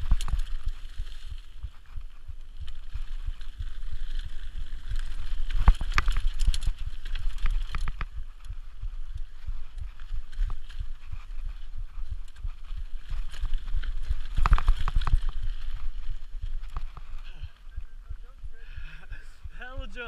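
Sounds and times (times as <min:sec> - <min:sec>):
bike rattling and knocking: 0:00.0 - 0:18.5
tyres running over dirt: 0:00.0 - 0:20.0
wind buffeting the microphone: 0:00.0 - 0:20.0.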